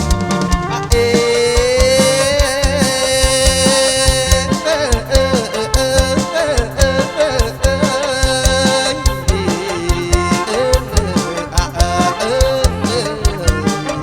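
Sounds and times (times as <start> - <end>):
drum kit beat: 0.0 - 14.0
wavering lead melody: 0.0 - 14.0.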